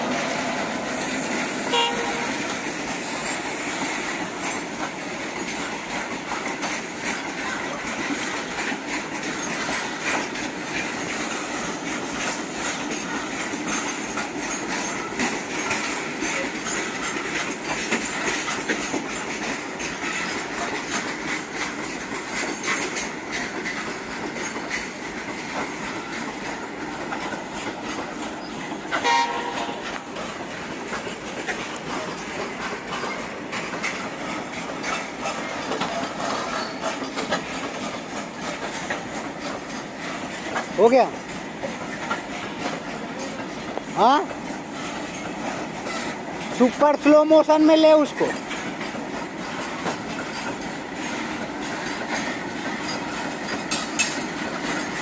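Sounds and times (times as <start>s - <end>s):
train rumbling on rails: 0.0s - 55.0s.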